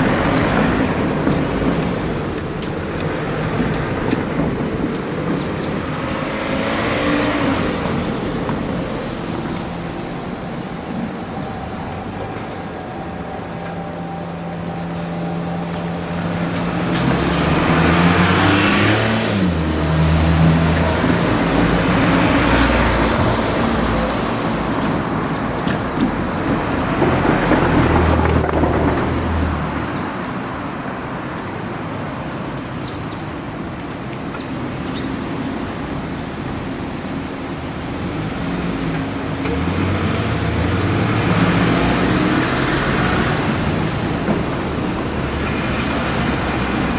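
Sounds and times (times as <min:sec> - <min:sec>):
engine humming: 0:00.0 - 0:46.9
vehicles passing: 0:00.0 - 0:46.9.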